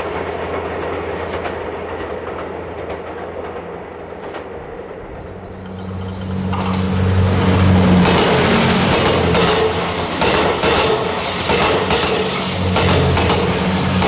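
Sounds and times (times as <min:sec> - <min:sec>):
train engine hum: 0:00.0 - 0:14.0
train wheels clacking on rails: 0:00.0 - 0:14.0.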